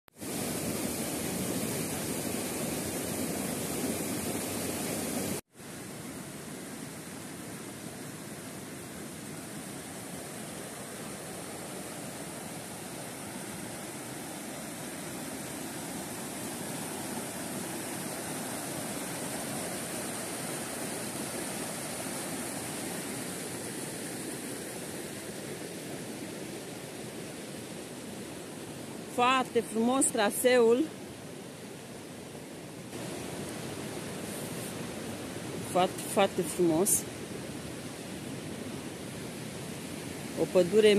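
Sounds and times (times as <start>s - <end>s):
stream rushing over boulders: 0.2s - 40.9s.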